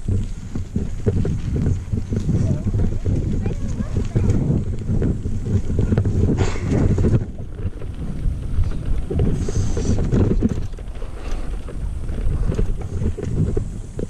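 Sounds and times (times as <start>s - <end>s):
bike rattling over bumps: 0.0s - 14.0s
tyres rolling on dirt: 0.0s - 14.0s
wind buffeting microphone: 0.0s - 14.0s.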